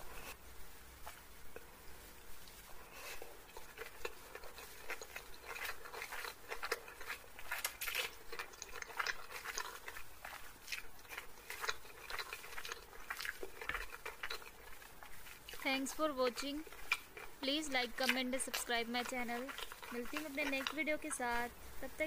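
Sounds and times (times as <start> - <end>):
chewing with wet mouth clicks: 2.4 - 21.4.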